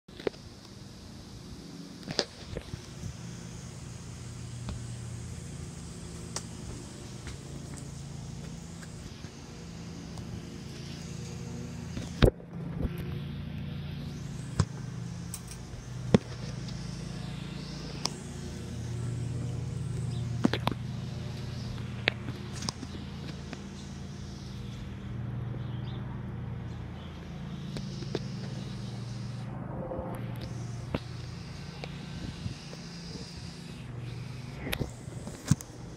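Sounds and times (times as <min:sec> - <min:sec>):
low mechanical hum: 0:00.1 - 0:35.9.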